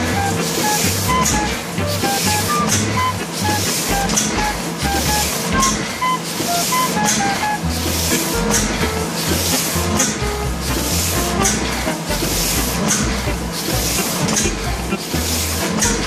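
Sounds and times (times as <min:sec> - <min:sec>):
background music: 0:00.0 - 0:16.0
die-cutting press running: 0:00.0 - 0:16.0.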